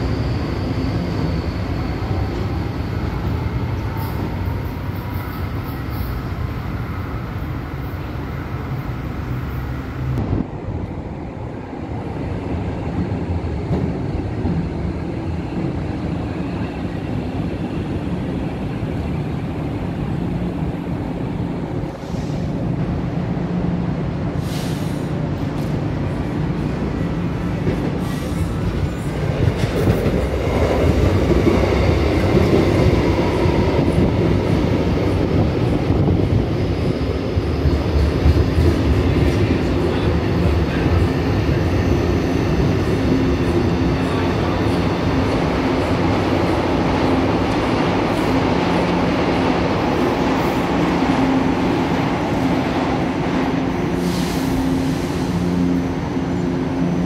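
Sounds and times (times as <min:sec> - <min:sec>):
train wheel and motor rumble: 0:00.0 - 0:57.0.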